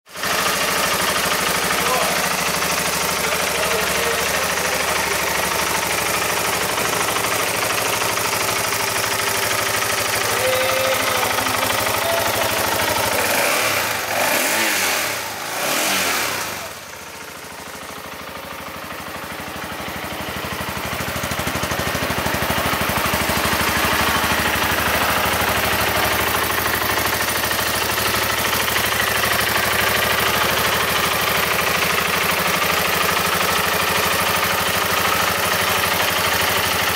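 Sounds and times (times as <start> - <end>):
motorcycle engine idling: 0.1 - 36.9.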